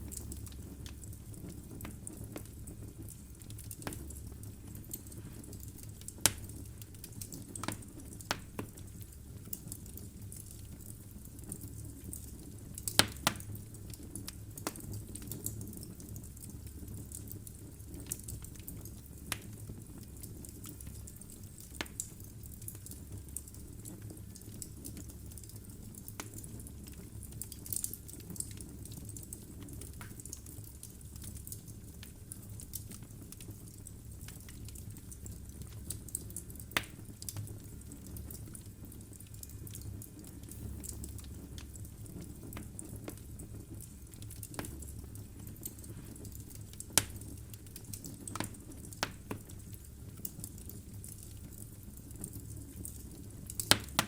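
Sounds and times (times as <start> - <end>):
flame rumble: 0.0 - 54.0
logs crackling and popping: 0.0 - 54.0.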